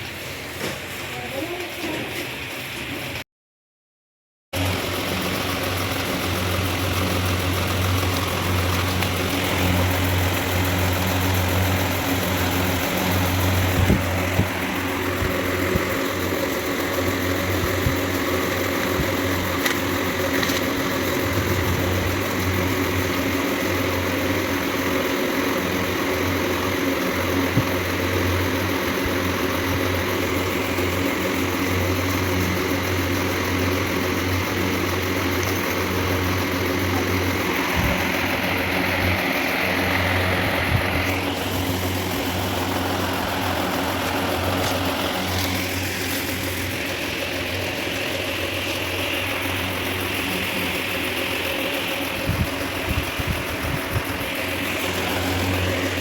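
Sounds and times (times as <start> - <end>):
machine humming: 4.6 - 56.0.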